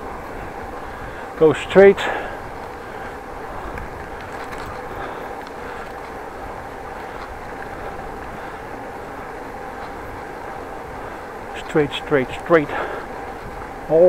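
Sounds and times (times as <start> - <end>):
bicycle tyre and road rumble: 0.0 - 14.0
faint steady whine: 0.0 - 14.0.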